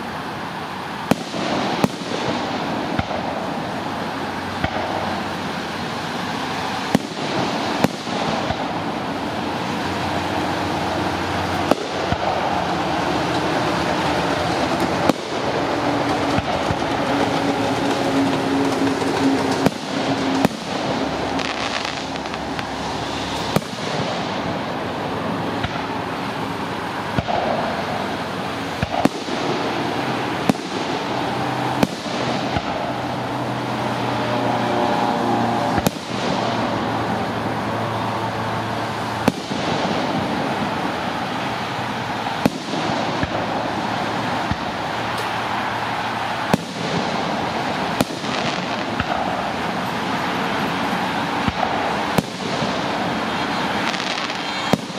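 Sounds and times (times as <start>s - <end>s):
fireworks bursting: 0.0s - 54.9s
steady background noise: 0.0s - 54.9s.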